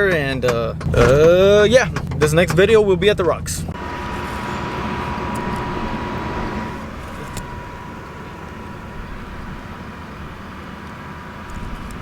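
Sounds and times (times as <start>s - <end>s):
vehicle driving rumble and hiss: 0.0s - 12.0s.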